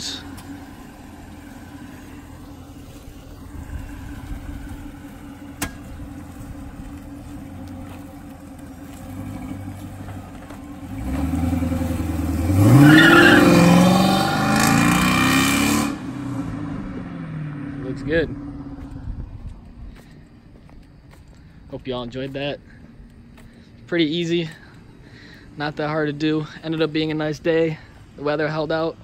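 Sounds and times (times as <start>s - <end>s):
car engine rumbling and accelerating: 0.0s - 29.0s.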